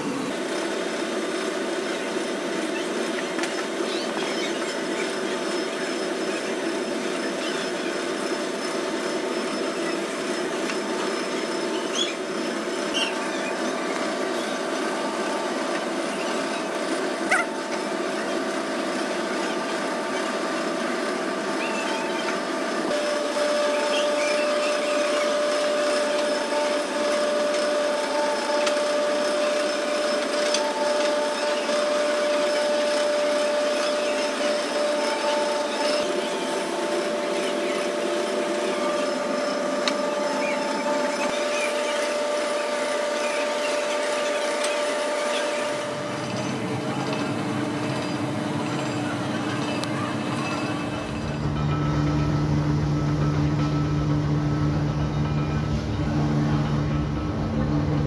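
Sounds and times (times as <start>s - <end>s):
machinery hum with held tone: 0.0s - 58.0s.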